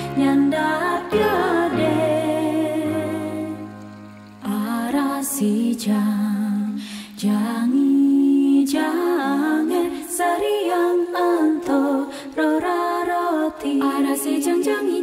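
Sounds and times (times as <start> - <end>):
person singing slow melody: 0.0 - 15.0.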